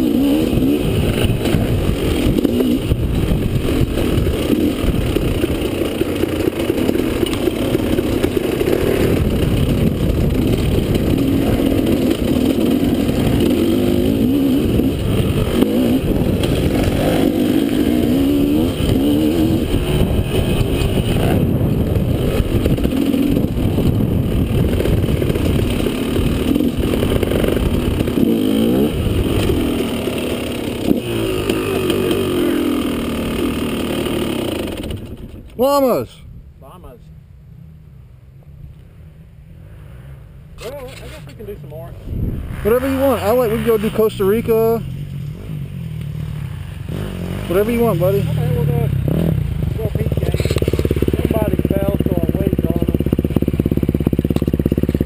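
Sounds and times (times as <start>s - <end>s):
dirt bike engine revving: 0.0s - 36.0s, 39.7s - 55.0s.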